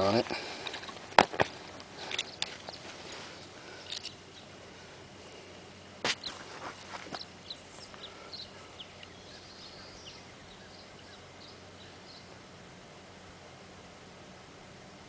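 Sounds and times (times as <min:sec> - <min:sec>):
small birds chirping: 0:00.0 - 0:12.4
low steady hum: 0:00.0 - 0:15.0.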